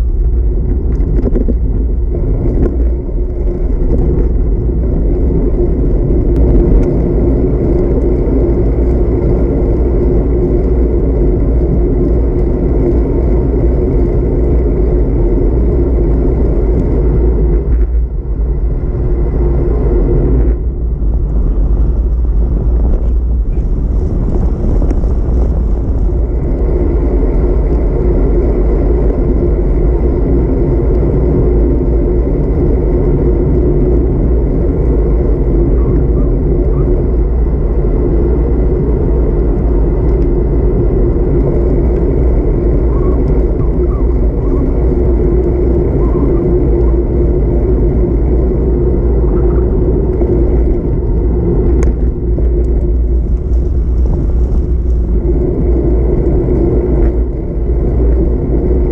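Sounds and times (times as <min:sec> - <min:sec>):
bike tyres on asphalt: 0:00.0 - 0:58.9
wind rumble on microphone: 0:00.0 - 0:58.9.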